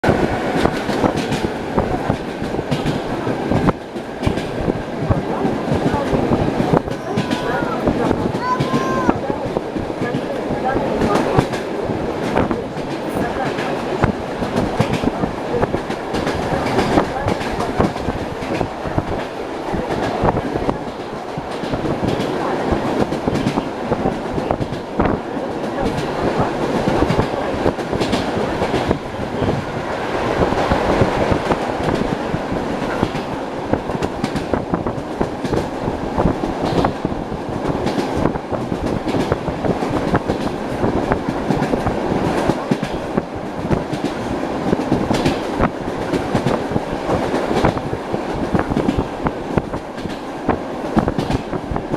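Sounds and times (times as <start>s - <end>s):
train running rumble: 0.0s - 51.9s
train wheels clattering over rail joints: 0.0s - 51.9s.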